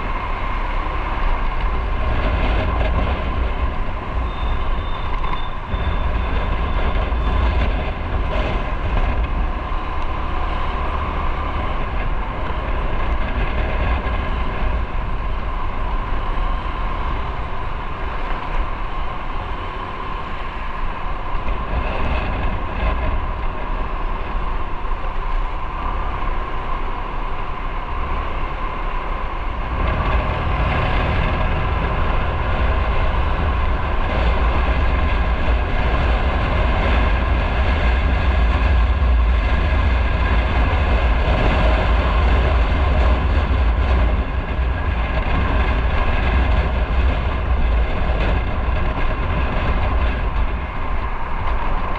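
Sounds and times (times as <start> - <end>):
motorcycle engine drone: 0.0 - 51.9
wind rush on microphone: 0.0 - 51.9.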